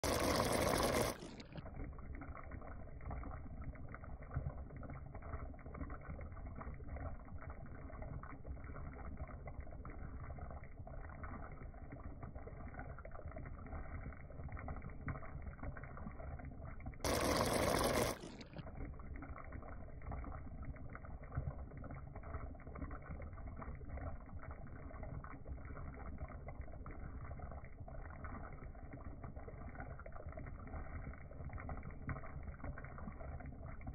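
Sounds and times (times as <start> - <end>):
sauce bubbling in a pan: 0.0 - 33.9.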